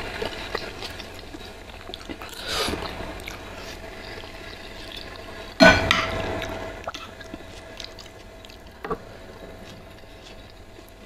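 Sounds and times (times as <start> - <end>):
noodles slurped and chewed: 0.0 - 5.5, 6.4 - 11.0.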